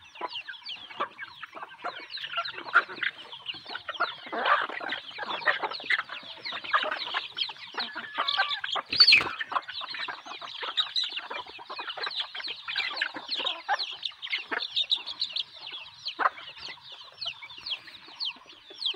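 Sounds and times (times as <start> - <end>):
chickens calling: 0.0 - 18.9.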